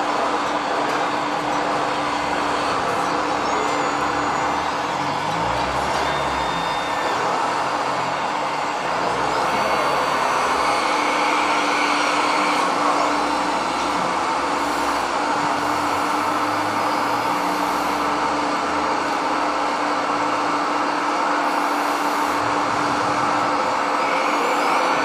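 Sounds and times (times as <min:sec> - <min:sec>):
toy excavator motor humming: 0:00.0 - 0:25.0.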